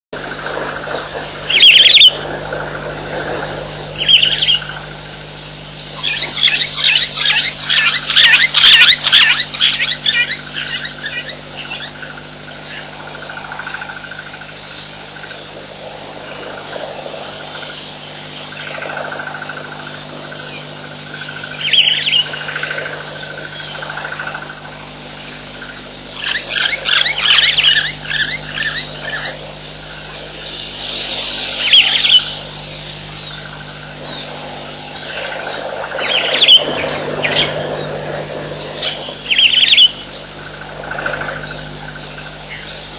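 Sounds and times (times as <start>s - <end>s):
low hum: 0.2s - 42.9s
birds chirping and calling: 0.3s - 2.3s, 3.1s - 42.9s.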